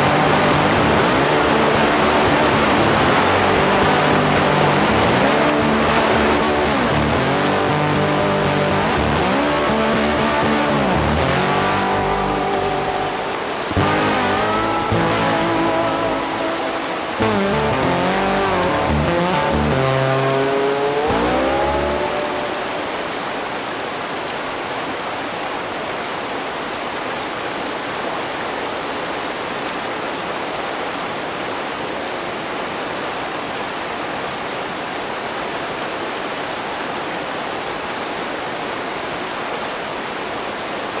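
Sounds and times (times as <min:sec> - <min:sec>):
river rushing over rocks: 0:00.0 - 0:41.0.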